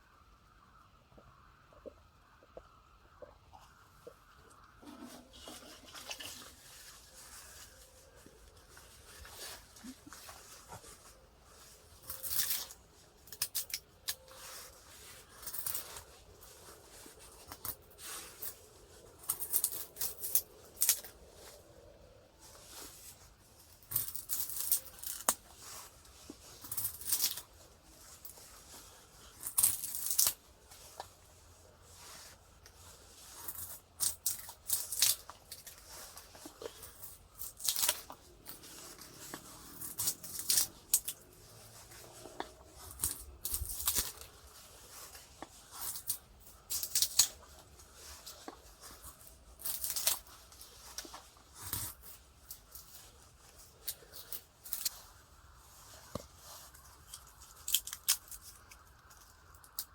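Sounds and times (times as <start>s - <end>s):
rustling and crinkling: 0.7s - 59.9s.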